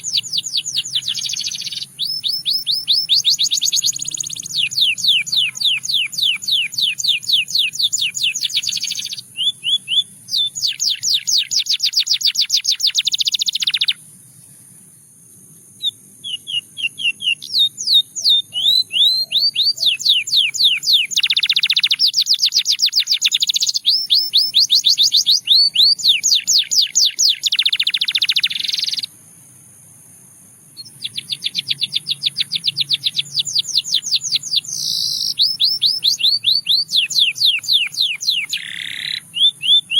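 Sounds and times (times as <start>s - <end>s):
canary singing trills: 0.0s - 14.9s, 15.7s - 29.2s, 30.7s - 39.9s
steady high hiss: 0.0s - 36.2s.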